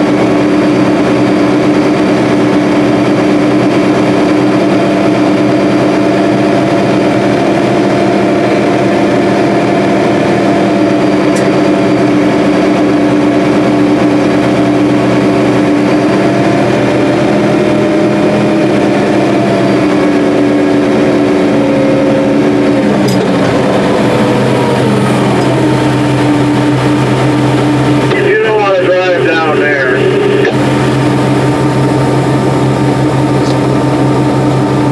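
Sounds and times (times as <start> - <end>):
combine harvester droning: 0.0 - 34.9.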